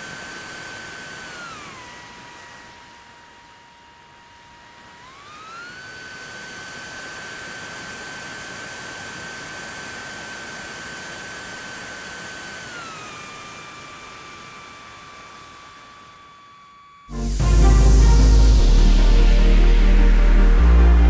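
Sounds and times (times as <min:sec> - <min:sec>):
electric motor and propeller whining: 0:00.0 - 0:21.0.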